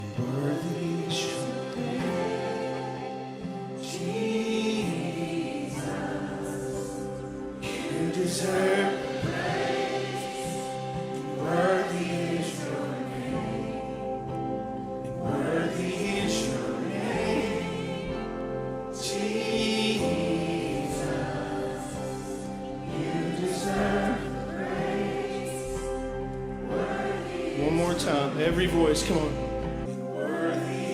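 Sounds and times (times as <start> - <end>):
congregation singing: 0.0 - 30.9
sustained instrumental chords: 0.0 - 30.9.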